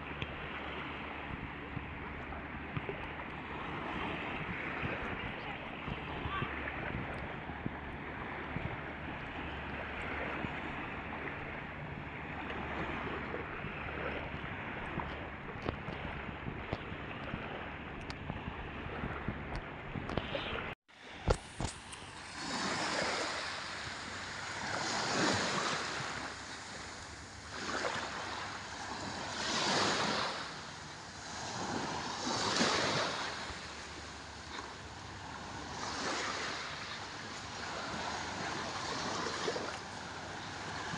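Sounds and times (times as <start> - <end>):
waves washing onto sand: 0.0 - 40.9
wind on microphone: 0.0 - 40.9.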